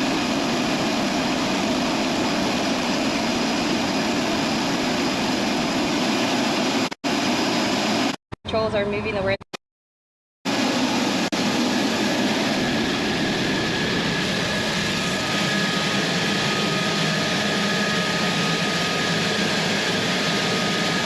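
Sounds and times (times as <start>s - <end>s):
jet engine idling: 0.0s - 8.2s, 10.5s - 21.0s.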